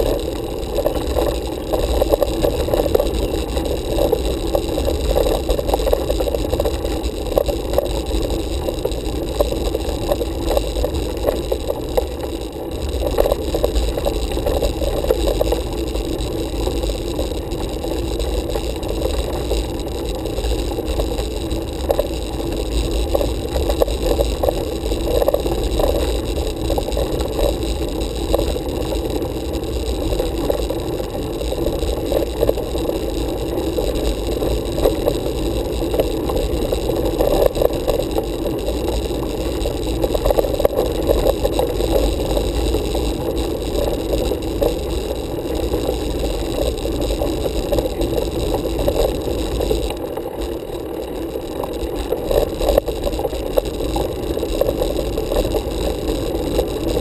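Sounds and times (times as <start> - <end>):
bicycle road vibration rattling: 0.0 - 57.0.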